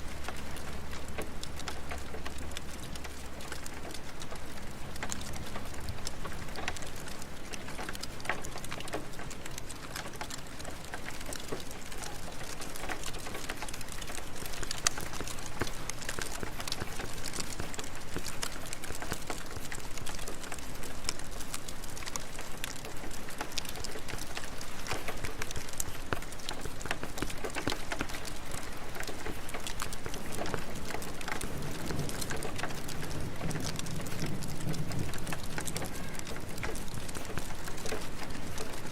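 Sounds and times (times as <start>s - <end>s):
steady rain falling: 0.0s - 38.9s
wood fire crackling: 0.0s - 38.9s.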